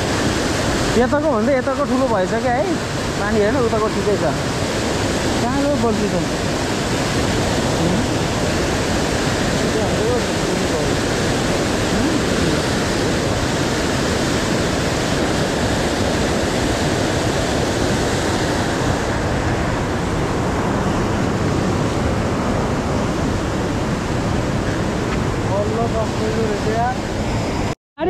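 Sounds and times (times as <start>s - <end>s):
river rushing through rapids: 0.0s - 27.7s.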